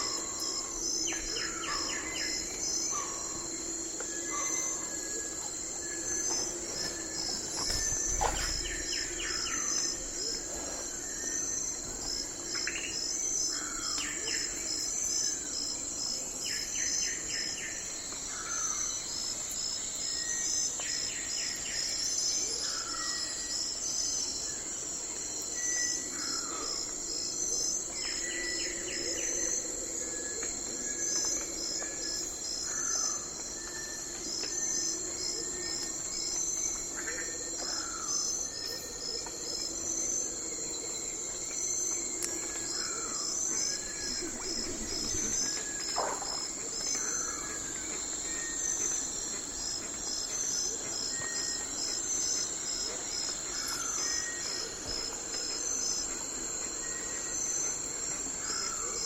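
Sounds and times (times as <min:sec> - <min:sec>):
crickets chirping: 0:00.0 - 0:59.0
high insect drone: 0:00.0 - 0:59.0.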